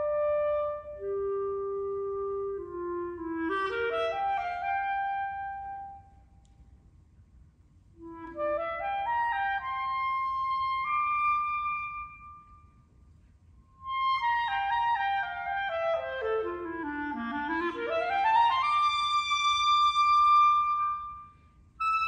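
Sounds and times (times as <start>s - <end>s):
clarinet playing: 0.0s - 6.2s, 8.0s - 12.8s, 13.7s - 22.0s.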